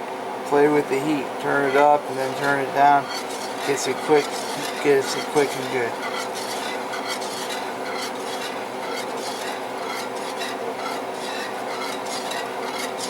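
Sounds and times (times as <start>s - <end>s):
steady low hum: 0.0s - 13.0s
utensil scraping a pan: 0.5s - 13.0s
sauce simmering: 1.4s - 13.0s.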